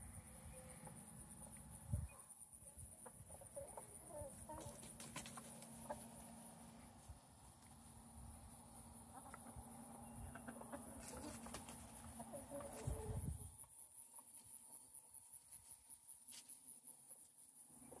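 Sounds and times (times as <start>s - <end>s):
chickens clucking: 0.2s - 15.8s.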